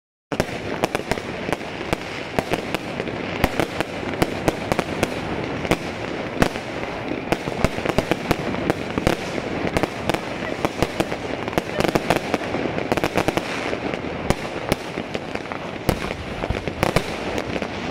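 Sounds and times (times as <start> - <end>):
fireworks crackling and banging: 0.3 - 17.9.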